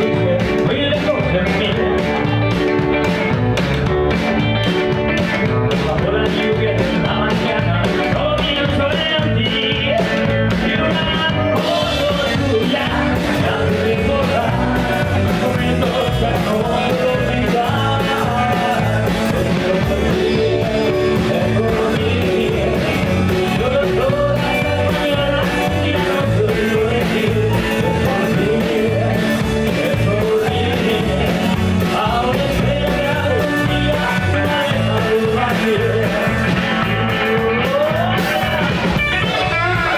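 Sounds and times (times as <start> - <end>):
drums and cymbals: 0.0 - 39.9
electric guitar: 0.0 - 39.9
man singing: 0.0 - 39.9.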